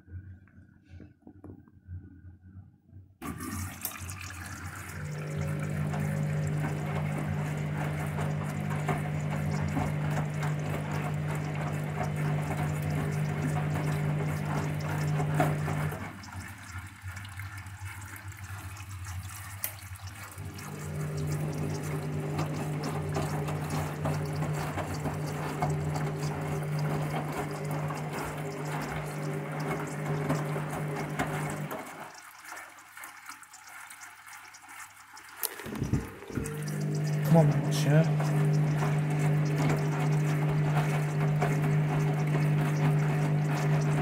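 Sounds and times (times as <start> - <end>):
washing machine motor hum: 3.2 - 44.0
water sloshing in washing machine: 3.2 - 44.0.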